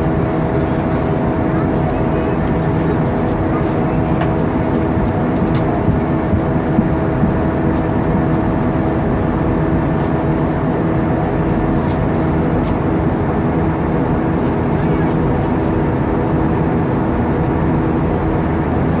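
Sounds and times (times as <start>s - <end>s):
airliner cabin engine rush: 0.0s - 19.0s.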